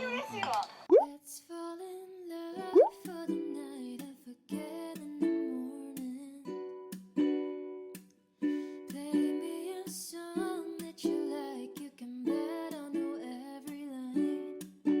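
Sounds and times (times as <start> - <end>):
strummed ukulele chords: 2.6 - 15.0.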